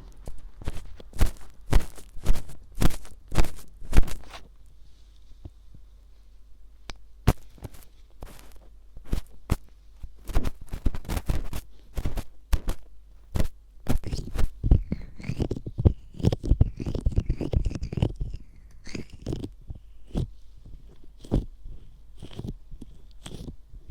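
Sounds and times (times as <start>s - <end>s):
ear pick scraping: 0.0s - 5.1s, 7.3s - 23.9s.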